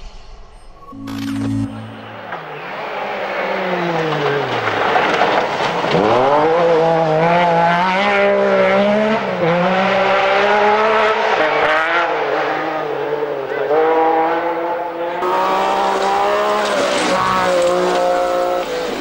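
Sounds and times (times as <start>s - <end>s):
rally car engine revving: 1.7s - 19.0s.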